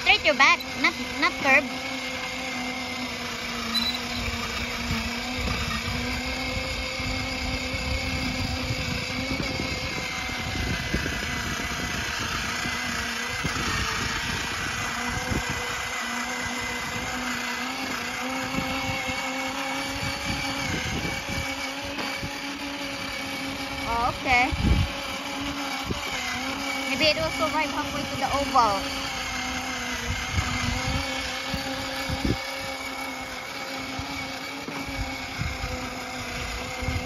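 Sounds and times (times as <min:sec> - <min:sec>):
toy motorcycle motor whining: 0:00.0 - 0:37.0.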